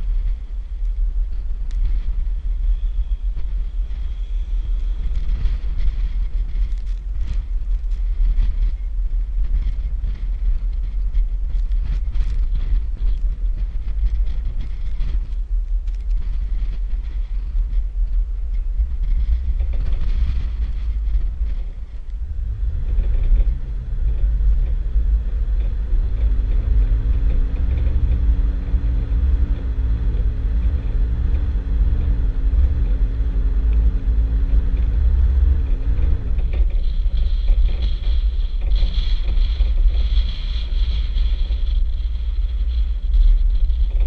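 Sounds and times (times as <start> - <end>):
vehicle engine drone: 0.0 - 44.0
wind rumble on microphone: 0.0 - 44.0.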